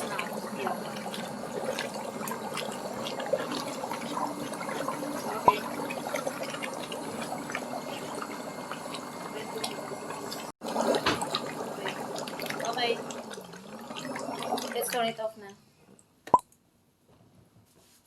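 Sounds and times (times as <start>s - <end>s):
water bubbling and churning: 0.0s - 15.1s.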